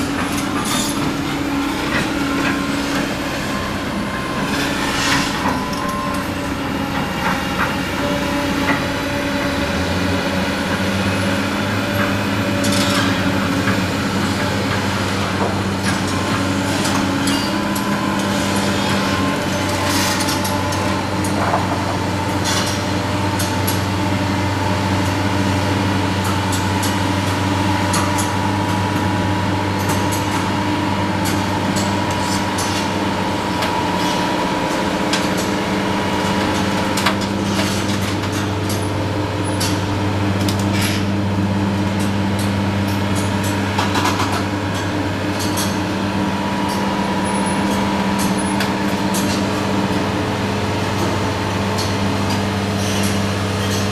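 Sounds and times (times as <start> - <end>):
excavator diesel engines running: 0.0 - 53.9.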